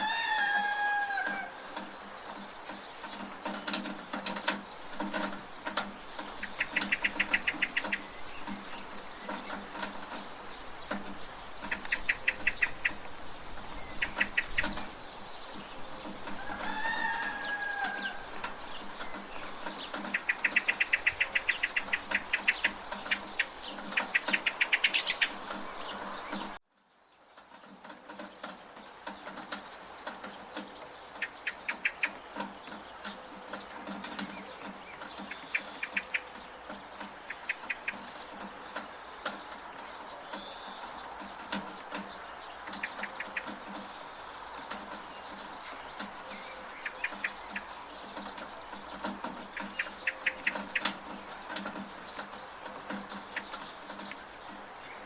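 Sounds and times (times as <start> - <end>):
birds chattering: 0.0 - 26.6, 27.3 - 55.0
chickens calling: 0.0 - 26.6, 28.7 - 55.0
gutter water running: 0.0 - 26.6, 27.2 - 55.0
rain: 0.0 - 55.0.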